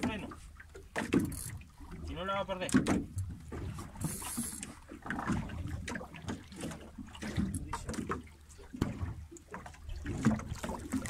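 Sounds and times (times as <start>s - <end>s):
water lapping against hull: 0.0s - 11.0s.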